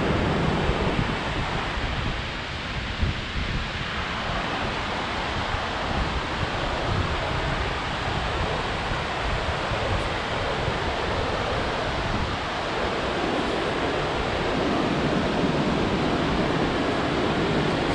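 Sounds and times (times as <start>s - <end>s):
waterfall rushing: 0.0s - 17.9s
wind buffeting microphone: 0.0s - 17.9s.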